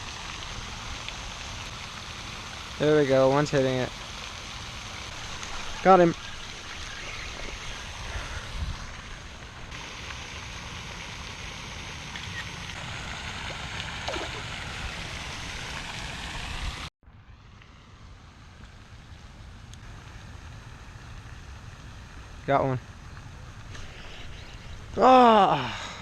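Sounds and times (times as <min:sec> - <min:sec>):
rushing water: 0:00.0 - 0:16.9, 0:19.4 - 0:26.0.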